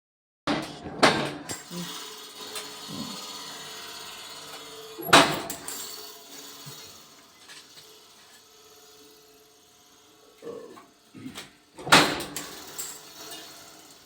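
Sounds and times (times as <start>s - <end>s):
steady tool hum: 1.5s - 14.0s.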